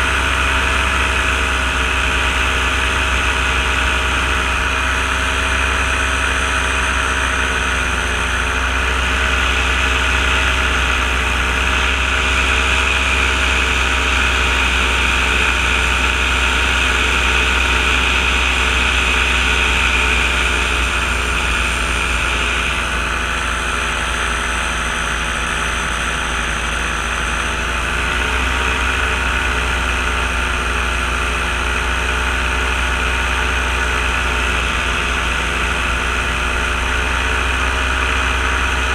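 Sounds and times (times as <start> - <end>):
paraglider engine and propeller drone: 0.0 - 38.9.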